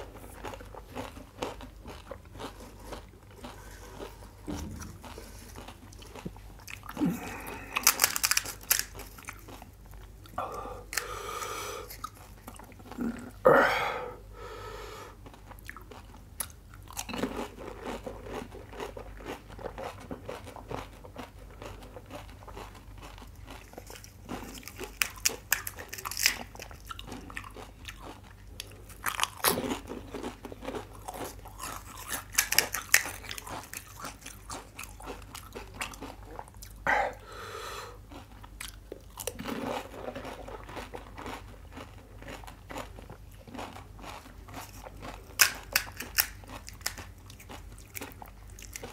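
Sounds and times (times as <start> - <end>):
crunching crisp snack shells: 0.0 - 9.8, 15.2 - 36.8, 38.1 - 48.9
chewing mouth sounds: 0.0 - 13.4, 15.2 - 37.2, 38.0 - 48.9.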